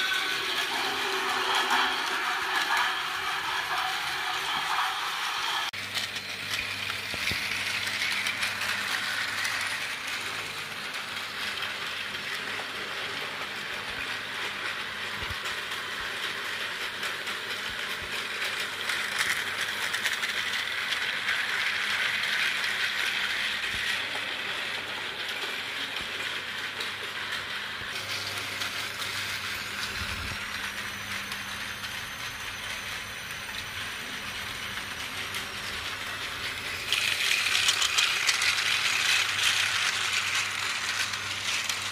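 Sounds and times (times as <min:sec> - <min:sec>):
toy train motors whirring: 0:00.0 - 0:41.9.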